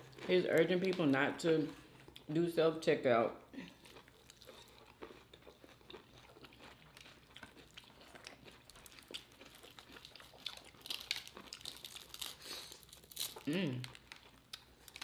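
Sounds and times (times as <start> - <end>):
chewing with soft crunches: 0.0 - 2.3, 3.5 - 15.0.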